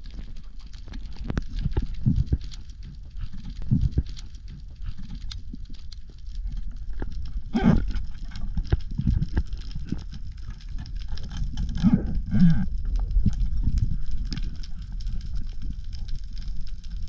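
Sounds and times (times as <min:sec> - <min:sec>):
clicks and crackles: 0:00.0 - 0:17.0
low underwater rumble: 0:00.0 - 0:17.0.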